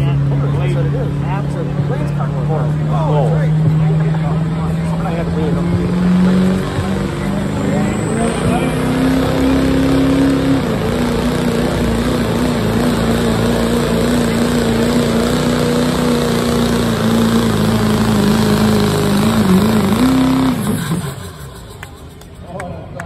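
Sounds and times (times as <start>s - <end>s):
diesel truck engine full throttle: 0.0s - 23.0s.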